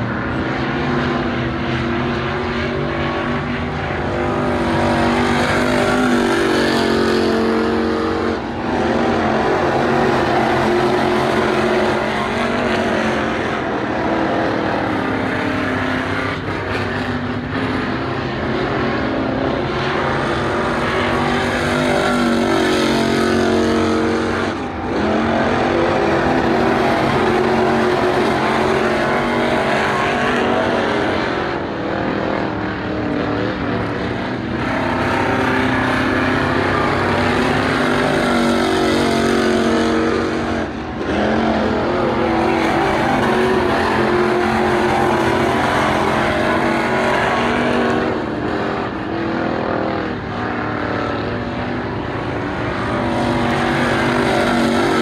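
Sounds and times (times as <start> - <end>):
race car engines running hard: 0.0 - 55.0.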